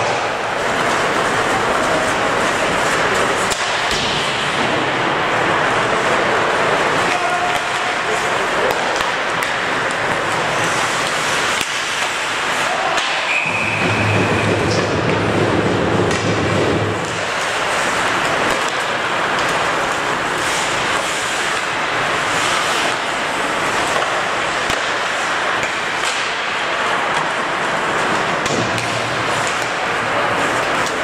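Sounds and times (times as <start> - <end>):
hockey sticks and puck clacking: 0.0 - 31.0
skate blades scraping ice: 0.0 - 31.0.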